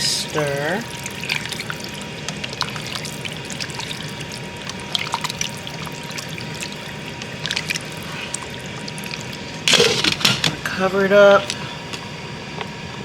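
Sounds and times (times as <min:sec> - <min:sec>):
liquid sloshing and trickling: 0:00.0 - 0:11.8.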